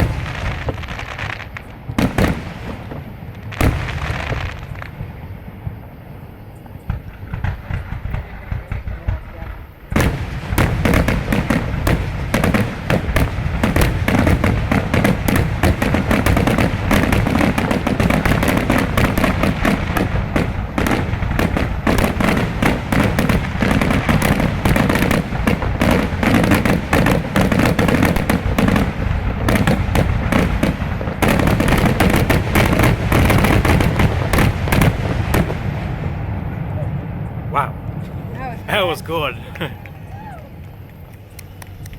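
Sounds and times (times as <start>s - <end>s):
firework shells booming: 0.0s - 39.8s
fireworks crackling: 0.0s - 41.9s.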